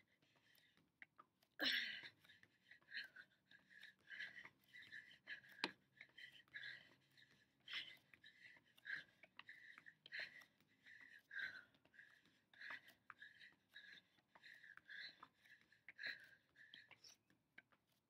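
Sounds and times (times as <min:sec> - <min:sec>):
person breathing hard: 0:01.6 - 0:17.4.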